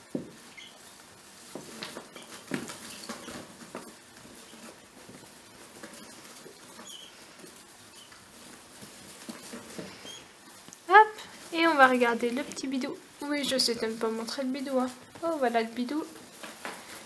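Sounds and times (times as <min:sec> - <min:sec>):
rats scurrying on fabric: 0:00.0 - 0:17.0.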